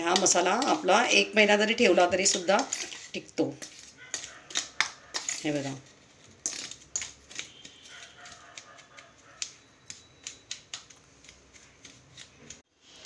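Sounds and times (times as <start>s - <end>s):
spoon scraping metal bowl: 0.0s - 12.6s.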